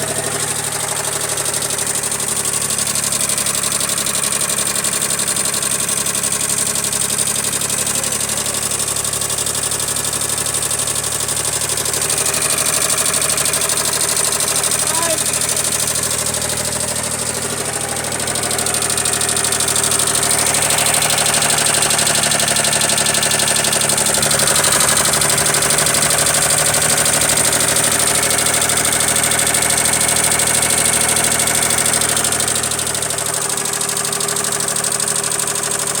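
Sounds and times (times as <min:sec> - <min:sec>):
tractor engine idling: 0:00.0 - 0:36.0.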